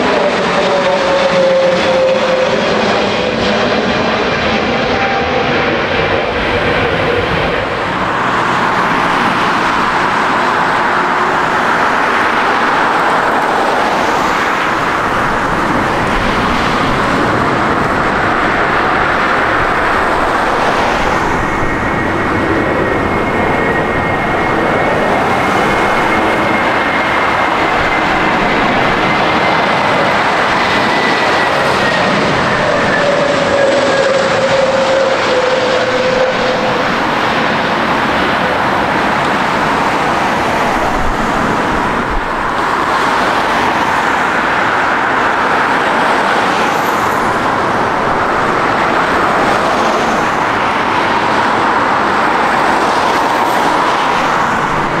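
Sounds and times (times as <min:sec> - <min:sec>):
jet airliner engines roaring: 0:00.0 - 0:55.0.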